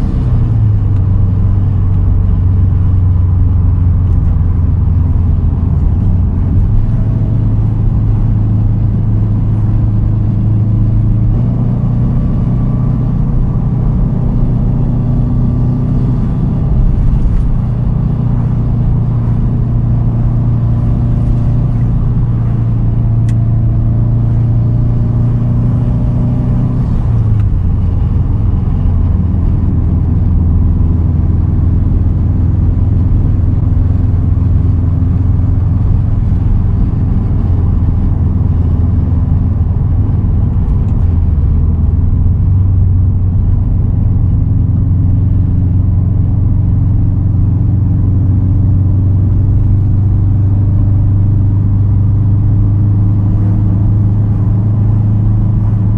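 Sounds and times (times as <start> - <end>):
car engine droning: 0.0 - 55.9.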